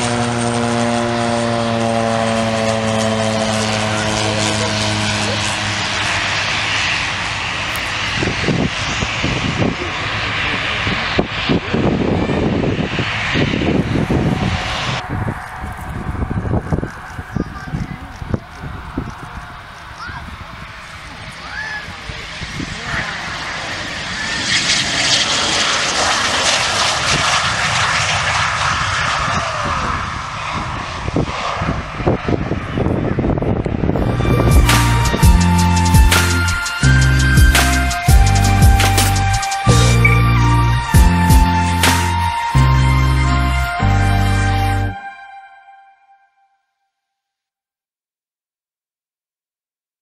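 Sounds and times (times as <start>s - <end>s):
low rumbles: 0.0s - 24.2s, 24.8s - 45.0s
light aircraft engine drone: 0.0s - 45.4s.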